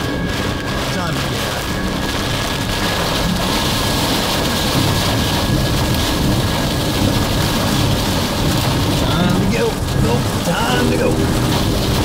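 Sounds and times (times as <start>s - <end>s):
heavy rain pounding vehicle: 0.0s - 12.0s
steady low rumble: 0.0s - 12.0s
wind: 0.0s - 12.0s.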